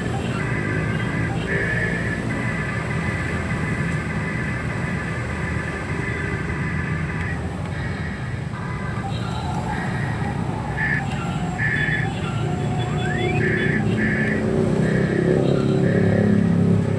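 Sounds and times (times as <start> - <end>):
toy electric motors whining: 0.0 - 16.4.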